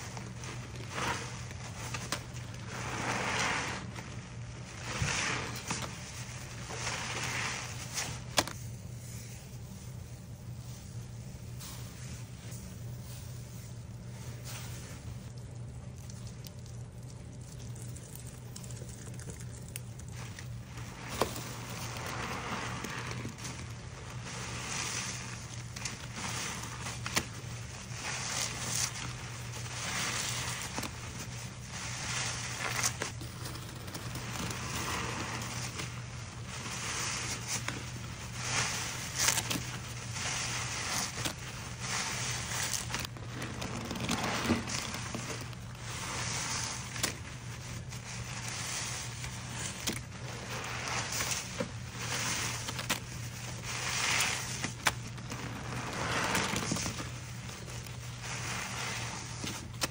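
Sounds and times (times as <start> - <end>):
low steady hum: 0.0 - 59.9
wet sponge squishing: 0.0 - 59.9.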